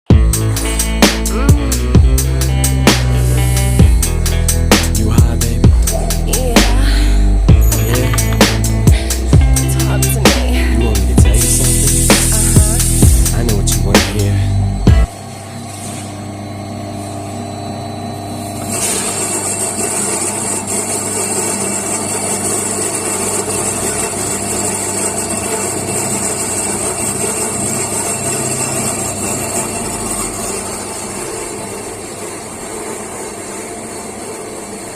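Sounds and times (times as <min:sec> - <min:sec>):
electric coffee grinder motor: 0:00.1 - 0:34.9.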